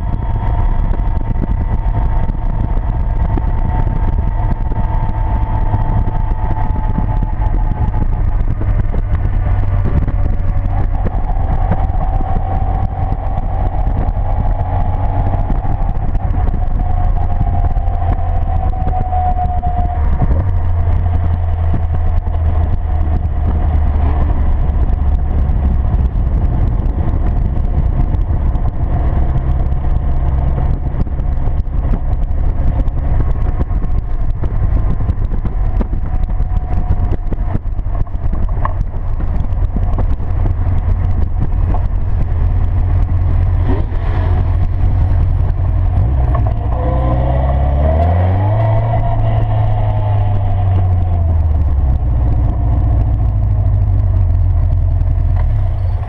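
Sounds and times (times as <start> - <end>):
sports car engine at speed: 0.0 - 56.0
wind rumble on microphone: 0.0 - 56.0.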